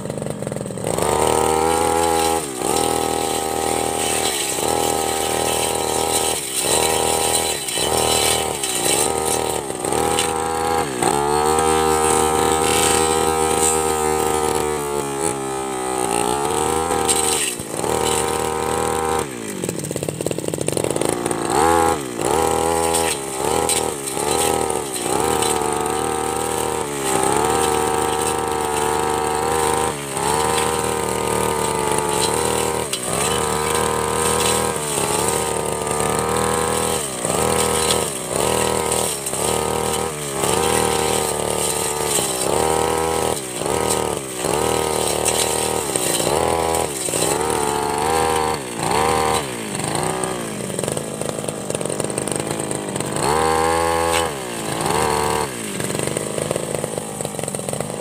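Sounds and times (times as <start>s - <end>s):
blade cutting grass and stems: 0.0s - 58.0s
brush cutter engine revving: 0.0s - 58.0s.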